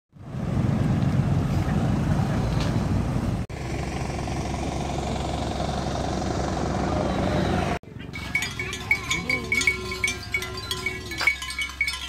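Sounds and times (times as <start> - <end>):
vehicle engine rumbling: 0.2 - 12.0.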